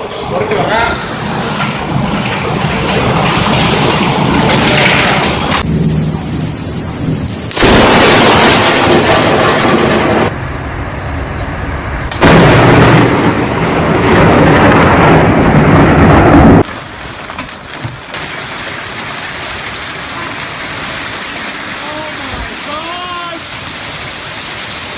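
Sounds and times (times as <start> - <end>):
steady rain: 0.0 - 10.3, 13.7 - 24.9
loud storm noise: 0.0 - 24.9.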